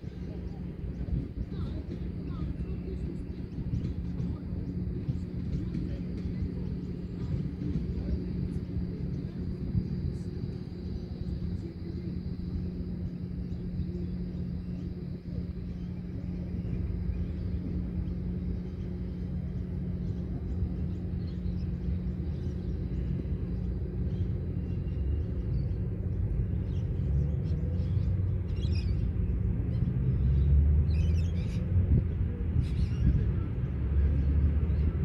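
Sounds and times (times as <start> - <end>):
constant low hum: 0.0 - 35.0.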